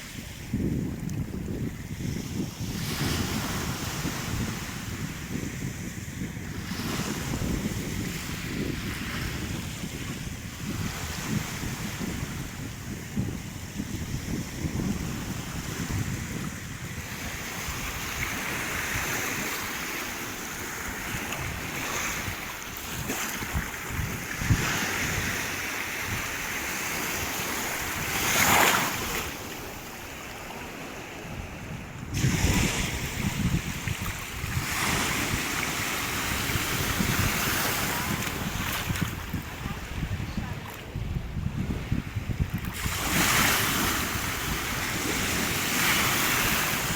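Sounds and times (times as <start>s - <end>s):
sea waves washing ashore: 0.0s - 46.9s
wind buffeting microphone: 0.0s - 46.9s.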